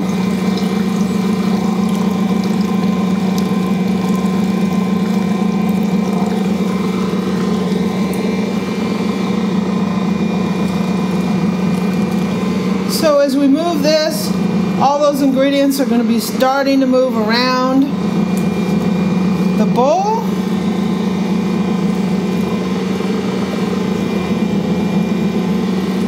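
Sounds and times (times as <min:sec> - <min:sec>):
stand mixer motor humming: 0:00.0 - 0:26.0.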